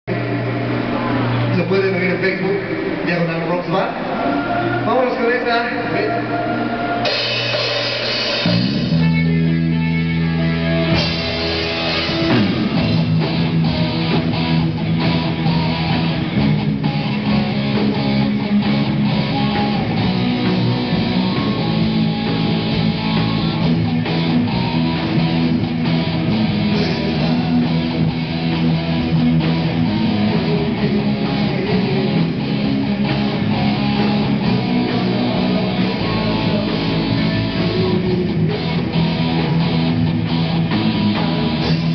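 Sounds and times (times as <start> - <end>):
heavy rock band playing: 0.0 - 41.9
guitar note sliding downward: 3.9 - 41.9.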